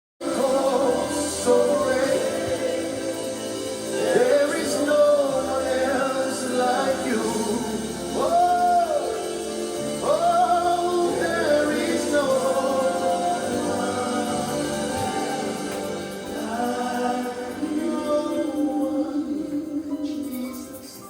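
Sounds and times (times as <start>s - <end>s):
keyboard and bass chords: 0.2s - 20.8s
man singing wordless melody: 0.2s - 21.0s.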